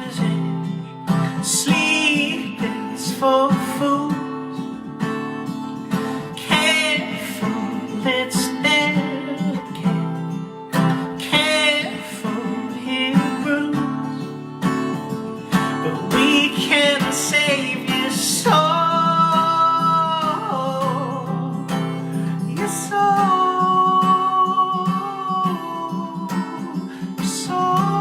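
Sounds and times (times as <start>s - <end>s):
person singing long wavering notes: 0.0s - 5.1s, 6.1s - 14.4s, 15.6s - 28.0s
acoustic guitar strummed and picked: 0.0s - 28.0s.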